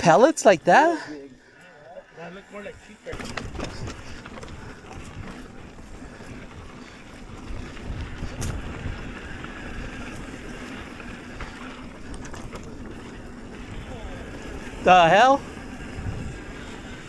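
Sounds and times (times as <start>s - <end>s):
wind buffeting microphone: 2.5s - 17.0s
bike clicks and rattles: 3.0s - 17.0s
tyre rumble on dirt trail: 3.1s - 17.0s.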